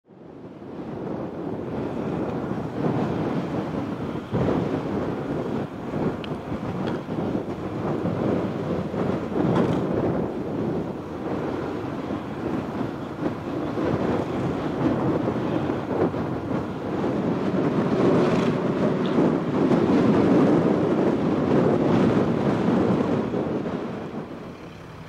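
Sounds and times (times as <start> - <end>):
wind buffeting microphone: 0.1 - 25.0.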